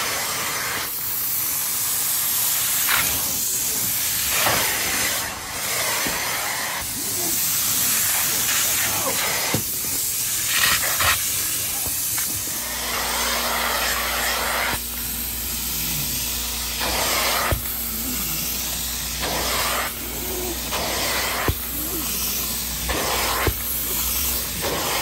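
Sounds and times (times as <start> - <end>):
extractor suction hiss: 0.0 - 25.0.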